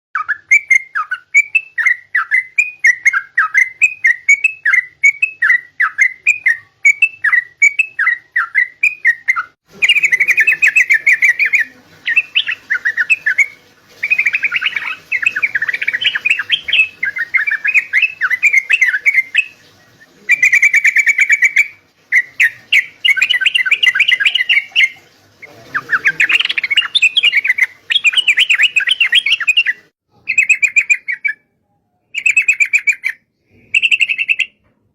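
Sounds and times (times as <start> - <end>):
bulbul singing: 0.2 - 34.7.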